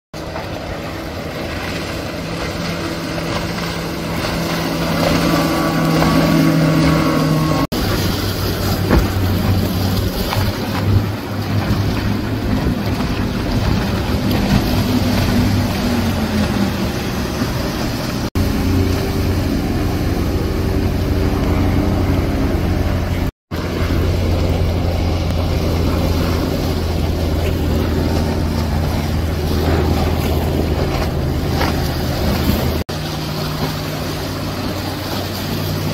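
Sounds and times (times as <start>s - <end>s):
outboard boat engines at speed: 0.1s - 35.9s.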